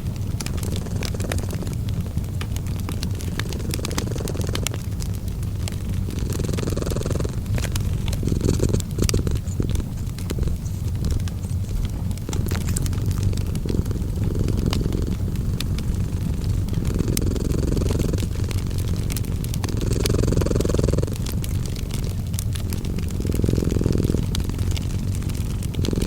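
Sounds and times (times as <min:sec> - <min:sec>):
cat purring: 0:00.0 - 0:26.0
wood fire crackling: 0:00.0 - 0:26.0.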